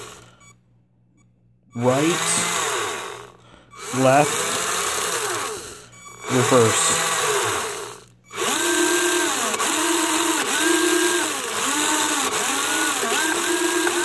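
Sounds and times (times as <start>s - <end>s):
electric motors whining: 0.0s - 0.5s, 1.8s - 14.0s.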